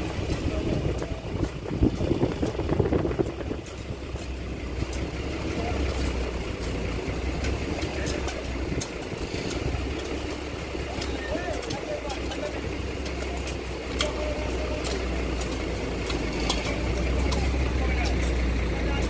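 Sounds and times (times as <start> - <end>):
indistinct voices: 0.0 - 19.0
low outdoor rumble: 0.0 - 19.0.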